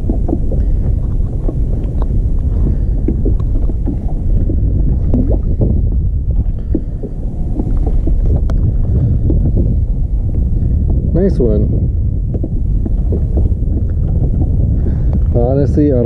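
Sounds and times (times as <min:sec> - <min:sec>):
clicks and knocks handling fish: 0:00.0 - 0:16.0
wind buffeting microphone: 0:00.0 - 0:16.0.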